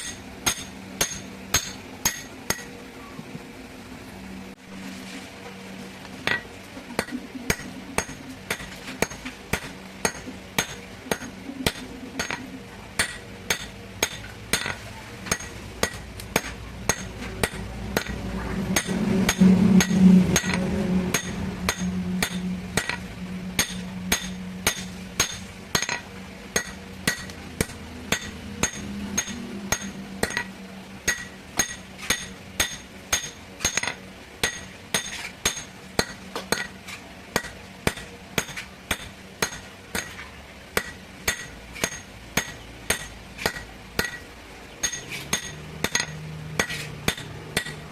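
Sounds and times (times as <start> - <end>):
hammer striking metal on anvil: 0.0 - 2.7, 6.2 - 36.8, 37.4 - 40.2, 40.8 - 47.9
low steady hum: 0.0 - 47.9.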